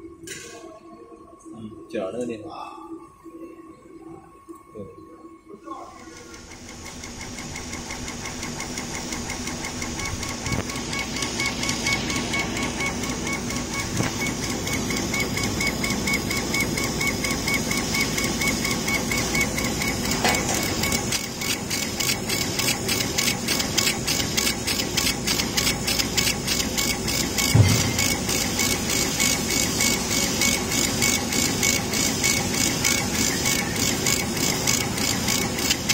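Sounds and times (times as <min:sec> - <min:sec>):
laser cutter humming: 0:00.0 - 0:35.9.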